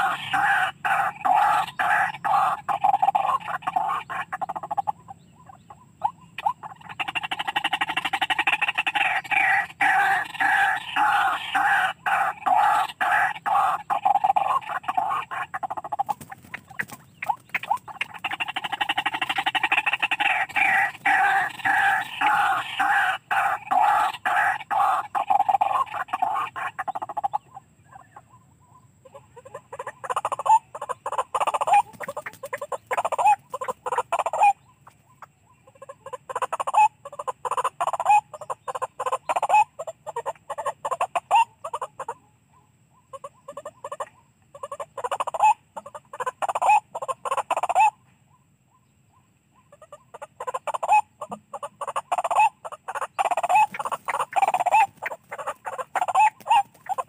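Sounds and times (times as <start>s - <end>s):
bird croaking calls through radio: 0.0s - 48.0s, 49.6s - 57.0s.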